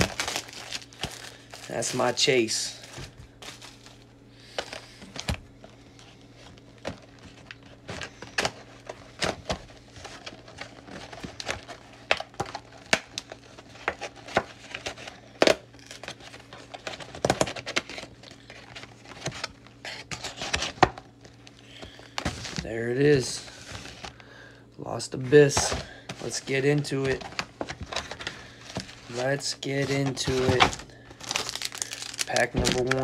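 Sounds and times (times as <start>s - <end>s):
plastic wrapping crinkling and tearing: 0.0s - 5.3s, 6.0s - 24.2s, 25.5s - 33.0s.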